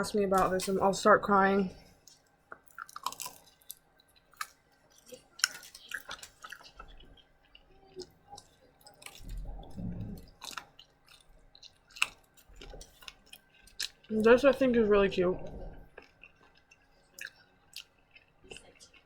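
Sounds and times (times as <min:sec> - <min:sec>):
person chewing food: 0:01.8 - 0:14.4, 0:15.5 - 0:19.0.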